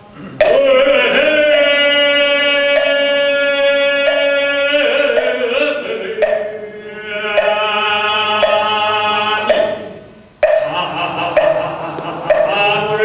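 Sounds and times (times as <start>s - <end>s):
buddhist chanting: 0.0s - 13.0s
sharp rhythmic knocks: 0.2s - 13.0s.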